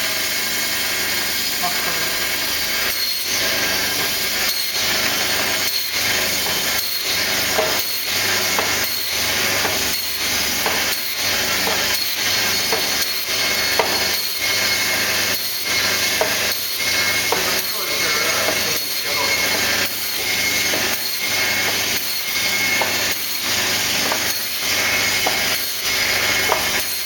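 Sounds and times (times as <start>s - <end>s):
band saw motor hum: 0.0s - 27.0s
saw blade rasping through frozen fish: 1.4s - 27.0s.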